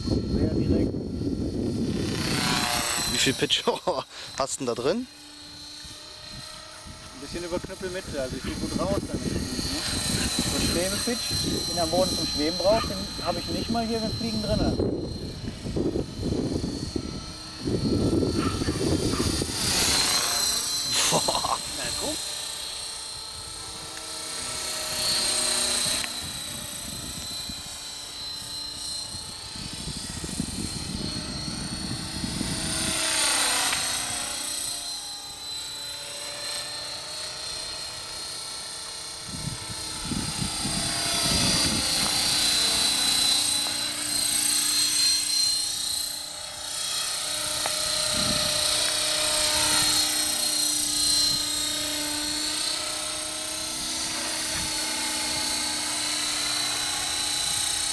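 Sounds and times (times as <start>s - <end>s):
rc helicopter rotor whine: 0.0s - 57.9s.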